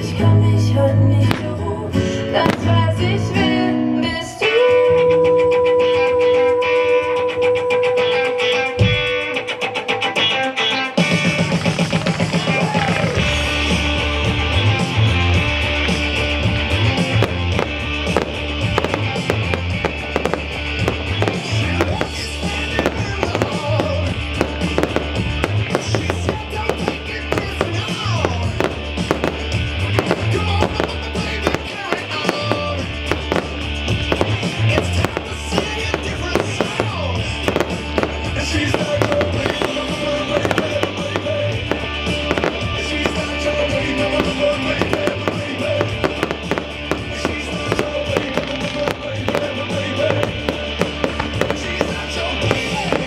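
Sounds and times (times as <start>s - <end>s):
fireworks bangs and crackling: 1.2s - 1.7s, 2.3s - 3.5s, 11.2s - 53.0s
loud music with pulsing beat: 4.5s - 53.0s.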